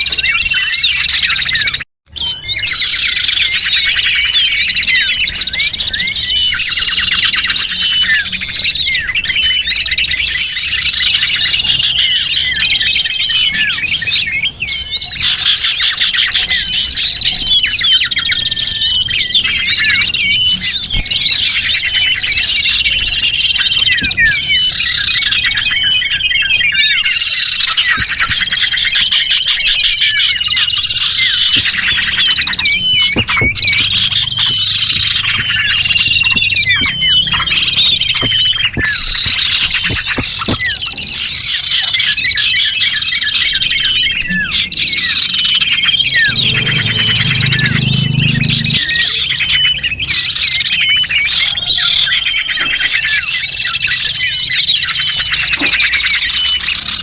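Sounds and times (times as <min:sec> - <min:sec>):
high whistled bird lure notes: 0:00.0 - 0:56.8
small songbirds chirping: 0:00.0 - 0:57.0.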